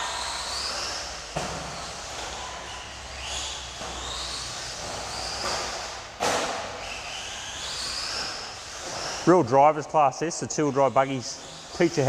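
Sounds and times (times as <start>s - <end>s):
rc car motor whining: 0.0s - 12.0s.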